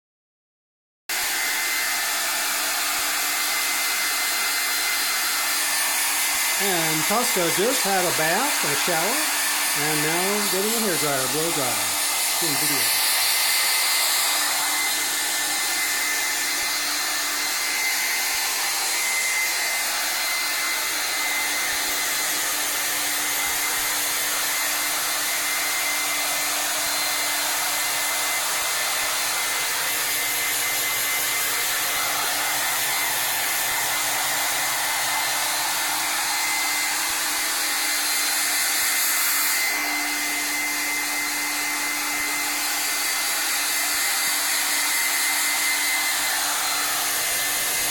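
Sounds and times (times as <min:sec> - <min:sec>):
hairdryer blowing: 0:01.1 - 0:47.9.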